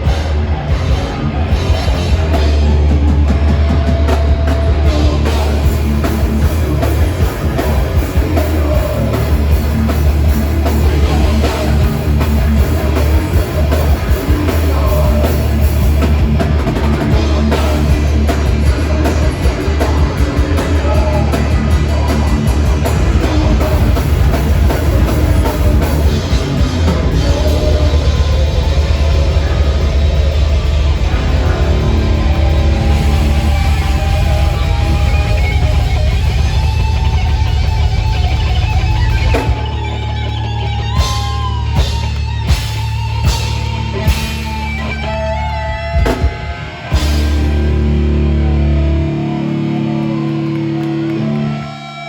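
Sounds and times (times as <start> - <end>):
heavy metal band playing: 0.0 - 52.0.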